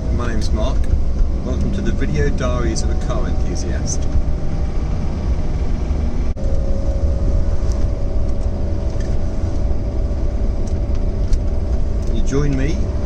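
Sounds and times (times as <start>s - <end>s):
car engine rumble from cabin: 0.0s - 13.0s.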